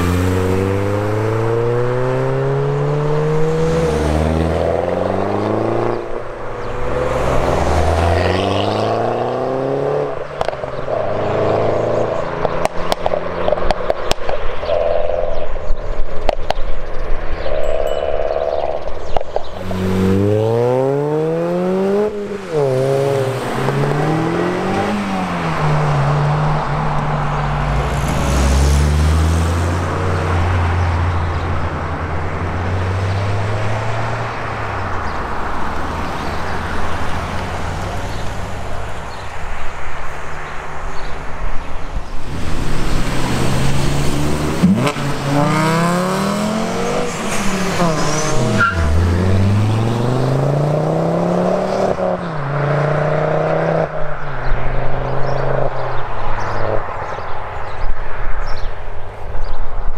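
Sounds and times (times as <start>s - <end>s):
car engine accelerating through gears: 0.0s - 13.8s, 19.4s - 39.2s, 42.3s - 56.8s.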